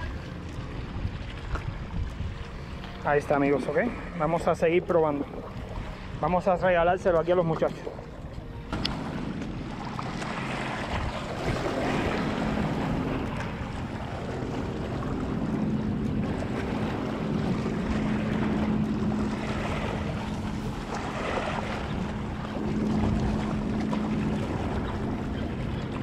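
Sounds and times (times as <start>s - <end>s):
steady low hum: 0.0s - 26.0s
wind buffeting microphone: 0.0s - 26.0s.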